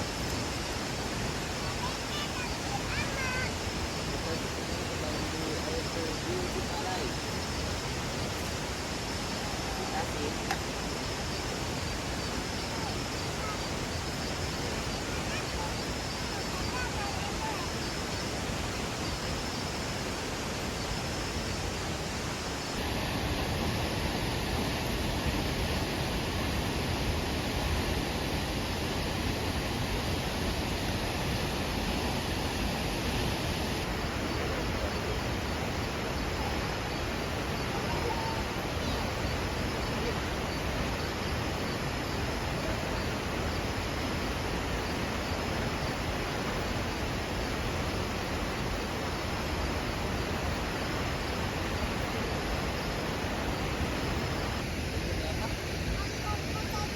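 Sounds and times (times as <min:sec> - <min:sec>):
falling water rushing: 0:00.0 - 0:56.9.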